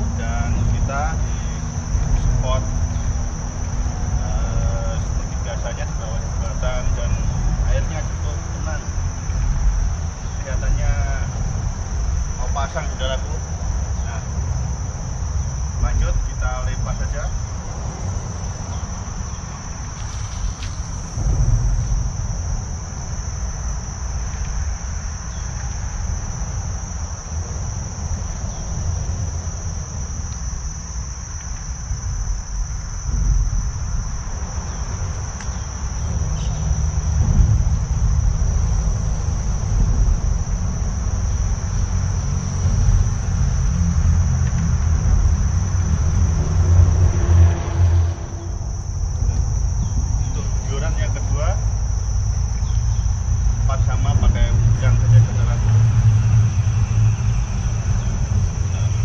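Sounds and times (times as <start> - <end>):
continuous low rumble: 0.0 - 59.0
high-pitched insect chorus: 0.0 - 59.0.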